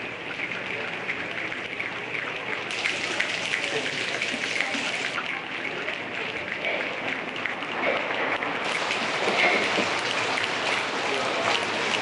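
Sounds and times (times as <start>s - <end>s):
audience patting legs like rain: 0.0s - 12.0s.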